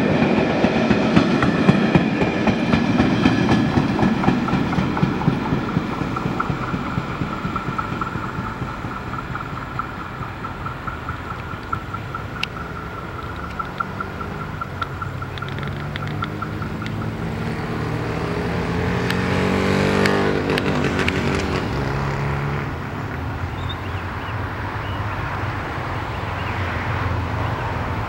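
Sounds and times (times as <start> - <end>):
cars passing by: 0.0 - 28.0.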